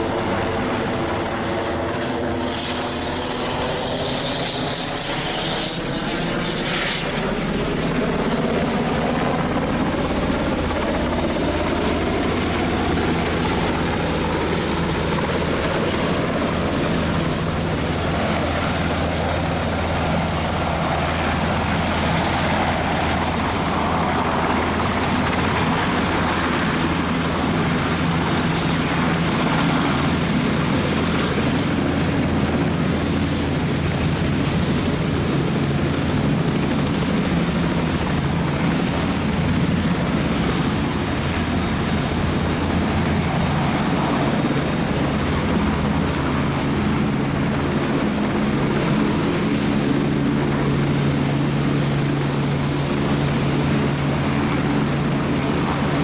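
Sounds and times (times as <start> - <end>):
helicopter rotor: 0.0 - 56.0
turbine whine: 0.0 - 56.0.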